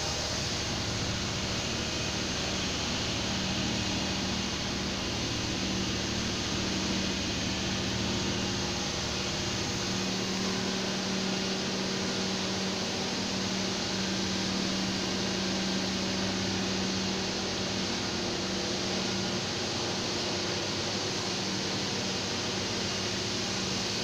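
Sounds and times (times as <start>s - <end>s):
electrical equipment humming: 0.0s - 24.0s.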